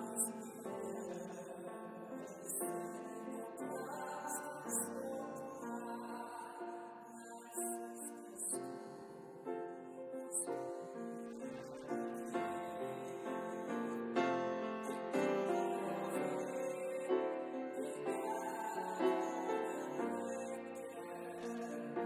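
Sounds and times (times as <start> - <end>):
grand piano playing: 0.0 - 22.0
man singing: 0.0 - 22.0.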